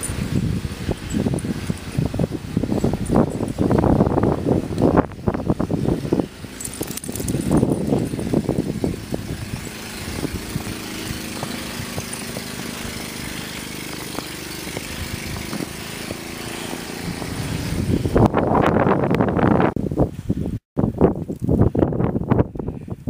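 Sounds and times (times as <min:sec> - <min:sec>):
motor engine humming: 0:00.0 - 0:19.8
wind buffeting microphone: 0:00.0 - 0:23.0.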